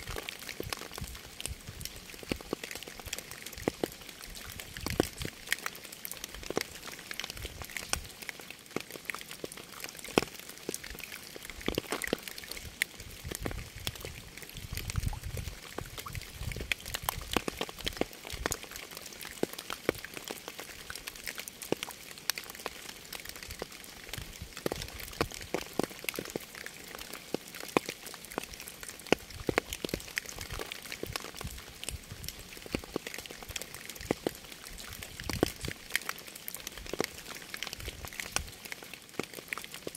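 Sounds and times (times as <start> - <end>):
raindrops tapping and splashing: 0.0 - 39.9.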